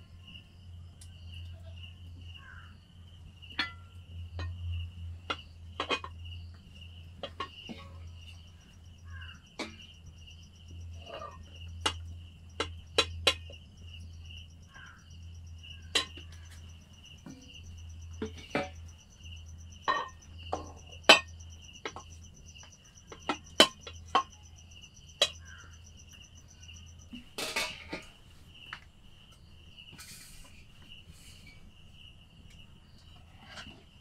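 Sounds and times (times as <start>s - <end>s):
cricket trilling: 0.0s - 34.0s.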